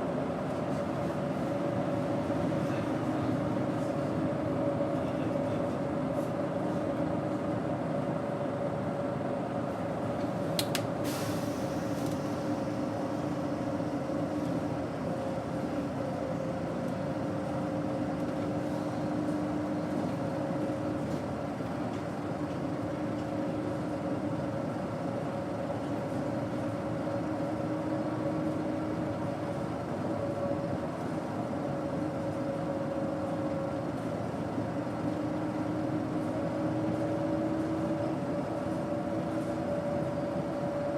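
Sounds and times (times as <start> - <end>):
bus engine droning: 0.0 - 40.9.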